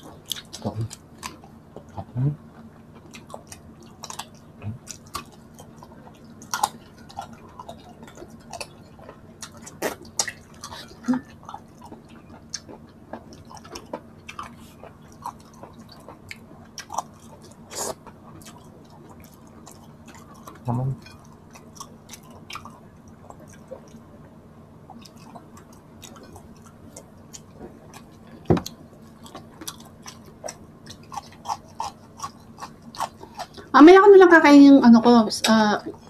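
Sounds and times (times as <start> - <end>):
person chewing food: 0.0 - 33.8.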